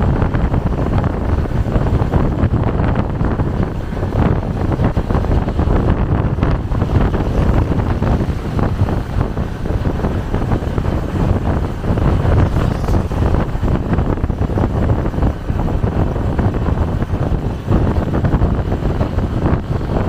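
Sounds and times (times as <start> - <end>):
vehicle rumble with road noise: 0.0 - 20.0
wind buffeting microphone: 0.0 - 20.0.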